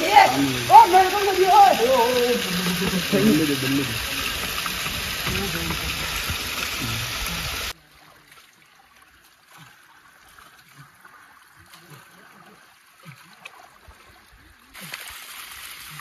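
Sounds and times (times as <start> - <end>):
stream trickling and gurgling: 0.0 - 16.0
water rushing: 0.0 - 16.0.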